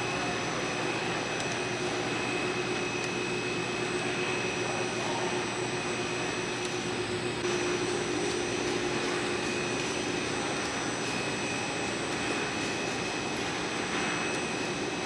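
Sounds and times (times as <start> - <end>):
machinery humming and whining: 0.0 - 15.0.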